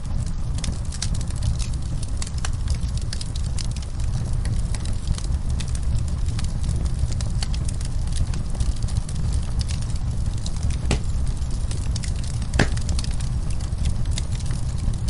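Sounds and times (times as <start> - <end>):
fireplace fire crackling: 0.0 - 15.0
fire popping loudly: 0.1 - 15.0.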